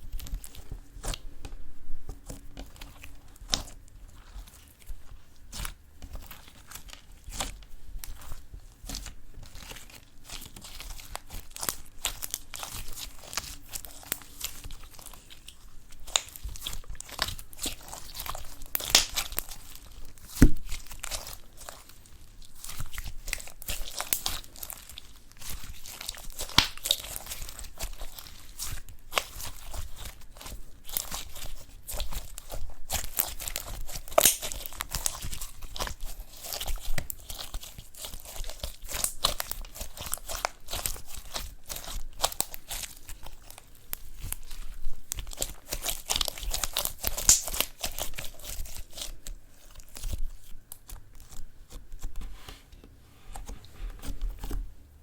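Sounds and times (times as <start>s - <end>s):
slime squishing and crackling: 0.0s - 52.3s.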